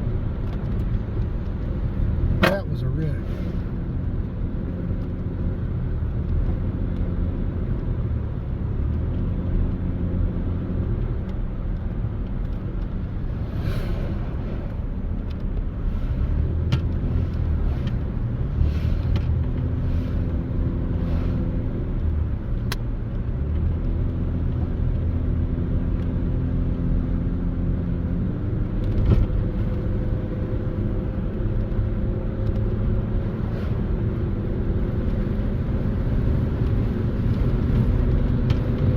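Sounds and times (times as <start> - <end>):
car engine hum: 0.0 - 38.9
road rumble: 0.0 - 38.9.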